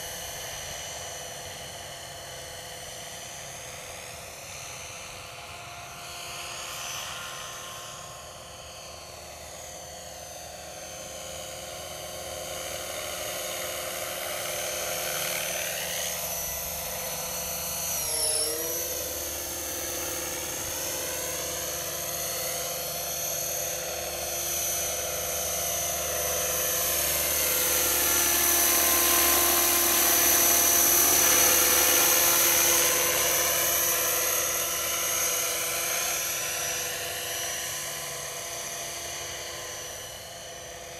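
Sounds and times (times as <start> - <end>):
rc helicopter whine: 0.0 - 40.9.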